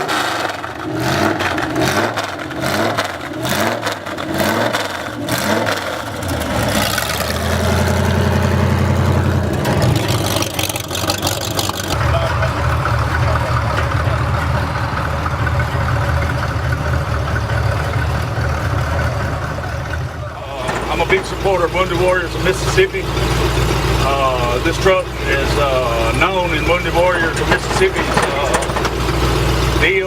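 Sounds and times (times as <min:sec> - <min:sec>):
truck engine running: 0:00.0 - 0:30.0.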